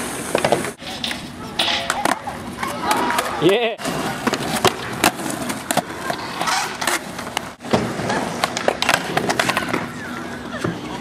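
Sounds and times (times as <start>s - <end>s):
skateboard wheels rolling on asphalt: 0.0s - 11.0s
skateboard clacking on ground: 0.2s - 11.0s.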